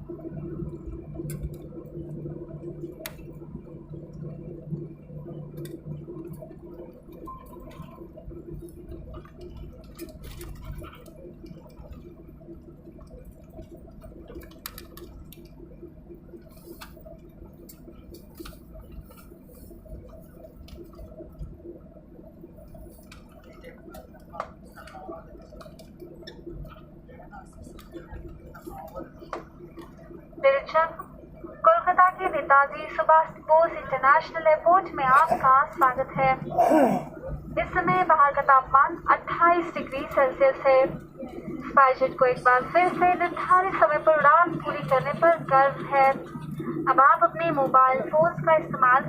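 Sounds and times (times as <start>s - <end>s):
airliner engine hum: 0.0s - 49.0s.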